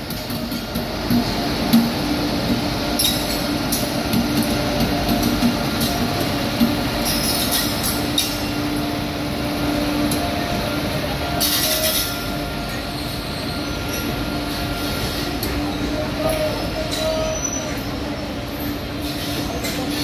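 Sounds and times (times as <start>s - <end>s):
freight train rumbling past: 0.0s - 20.0s
locomotive hum: 0.0s - 20.0s.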